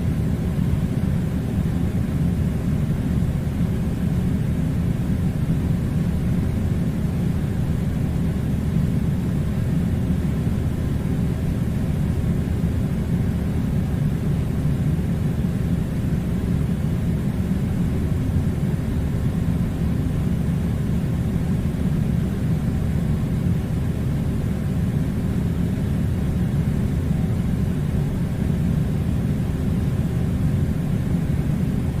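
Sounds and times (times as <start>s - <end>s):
air conditioner humming: 0.0s - 32.0s.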